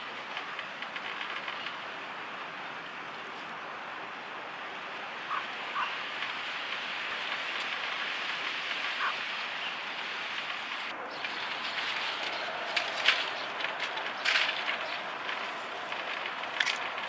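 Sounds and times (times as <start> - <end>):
outdoor lakeside hiss: 0.0 - 17.0.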